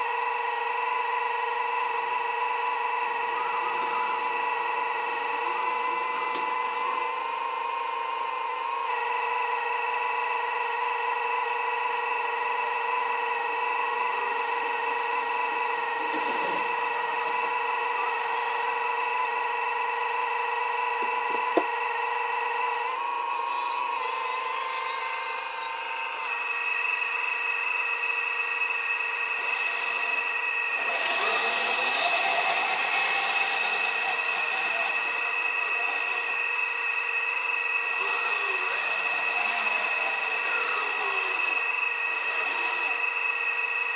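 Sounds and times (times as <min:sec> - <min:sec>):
earthmoving machine high whine: 0:00.0 - 0:43.9.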